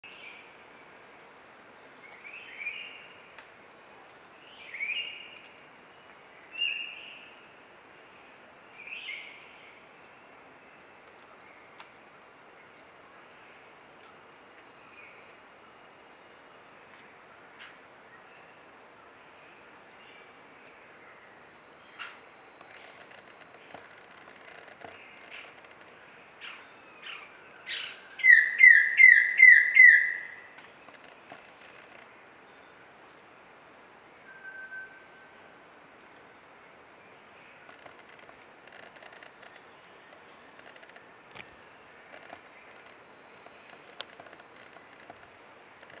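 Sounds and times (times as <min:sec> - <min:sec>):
high pulsing insect chorus: 0:00.0 - 0:46.0.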